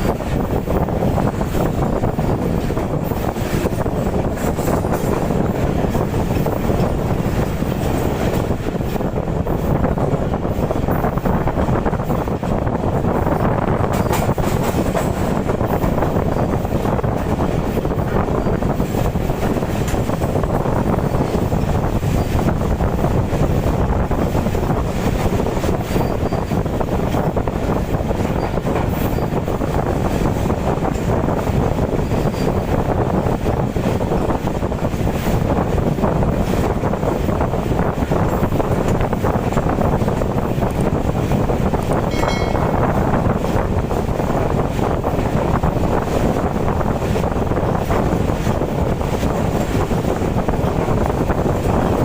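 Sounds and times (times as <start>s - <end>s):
train wheels rumbling on track: 0.0s - 52.0s
wind on microphone: 0.0s - 52.0s.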